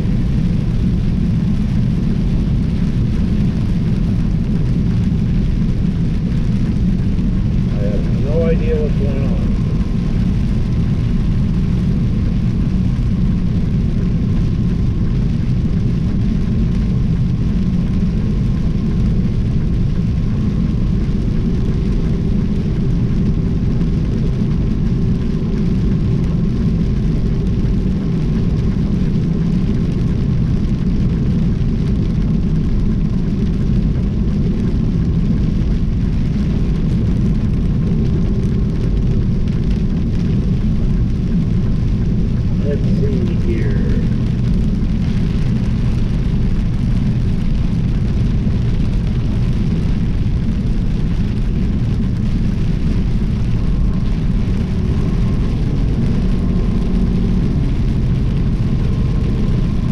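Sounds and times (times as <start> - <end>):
faint steady hum: 0.0 - 30.6, 31.4 - 59.9
engine and road noise drone: 0.0 - 59.9.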